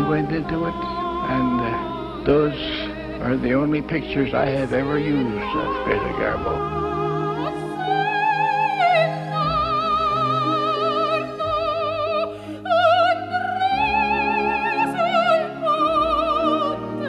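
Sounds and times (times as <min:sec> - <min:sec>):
operatic singing: 0:00.0 - 0:17.0
orchestral accompaniment: 0:00.0 - 0:17.0.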